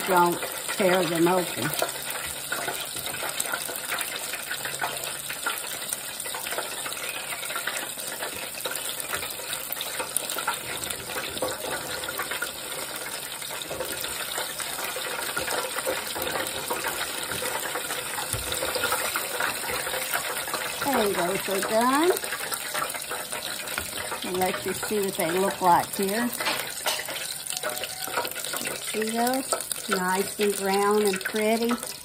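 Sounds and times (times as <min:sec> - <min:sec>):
oil bubbling and crackling in fryer: 0:00.0 - 0:32.0.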